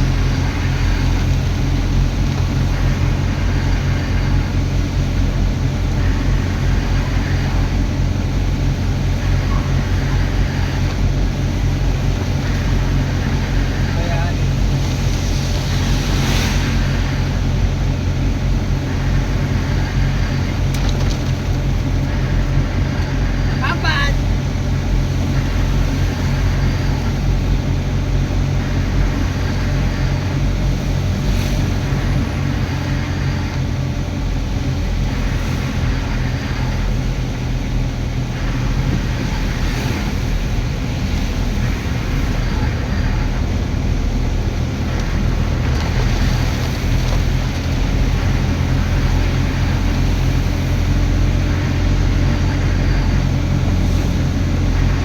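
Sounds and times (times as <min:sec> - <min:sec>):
road noise: 0:00.0 - 0:55.0
vehicle engine drone: 0:00.0 - 0:55.0.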